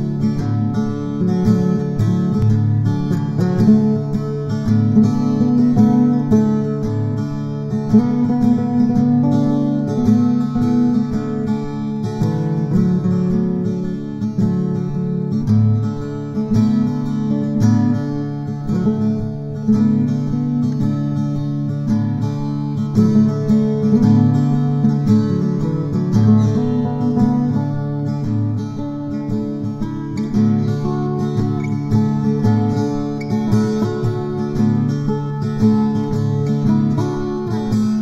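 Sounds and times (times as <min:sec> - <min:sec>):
acoustic guitar strummed: 0:00.0 - 0:38.0.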